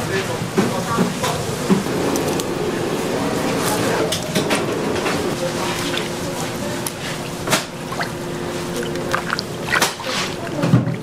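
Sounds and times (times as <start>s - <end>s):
steady hum: 0.0s - 10.9s.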